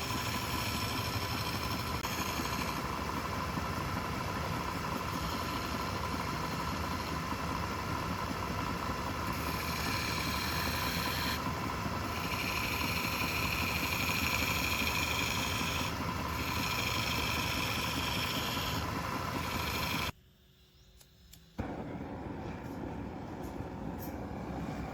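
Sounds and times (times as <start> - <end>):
turning tool cutting wood: 0.0 - 20.1
wood lathe humming: 0.0 - 20.1.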